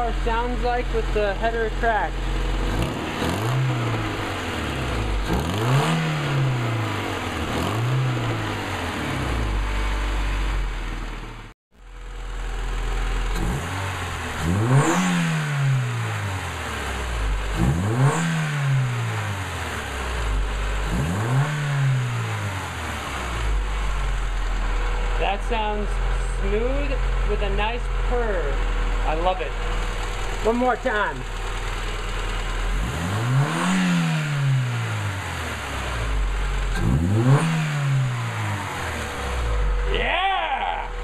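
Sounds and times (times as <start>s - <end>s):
car engine revving: 0.0s - 11.5s, 12.1s - 41.0s.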